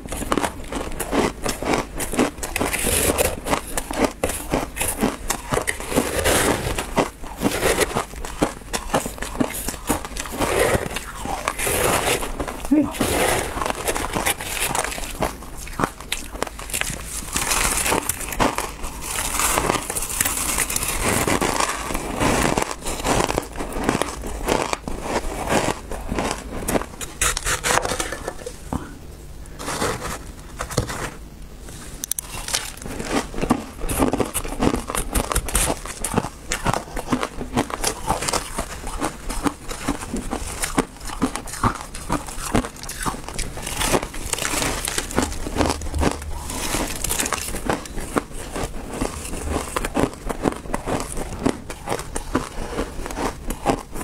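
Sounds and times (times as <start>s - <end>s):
crunching and chewing ice: 0.0s - 29.0s, 31.9s - 54.0s.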